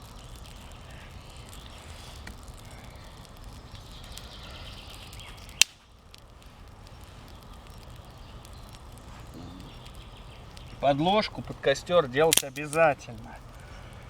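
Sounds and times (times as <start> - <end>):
campfire crackling: 0.0 - 14.0
low outdoor rumble: 0.0 - 14.0
sharp crack of fire: 0.0 - 14.0.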